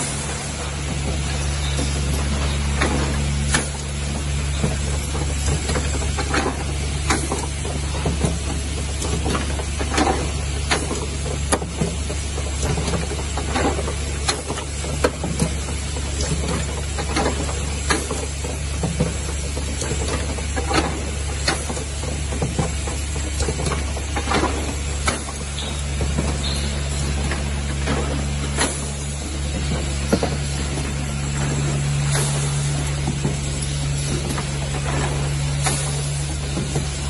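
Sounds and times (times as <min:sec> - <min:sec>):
machine humming: 0:00.0 - 0:37.0
pneumatic clacks and air hisses: 0:00.0 - 0:37.0.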